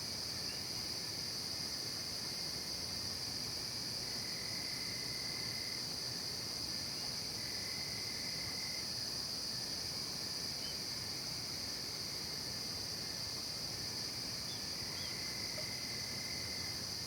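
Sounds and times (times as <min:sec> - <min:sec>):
crickets and insects chirping: 0:00.0 - 0:17.0
faint low insect trill: 0:00.0 - 0:17.0.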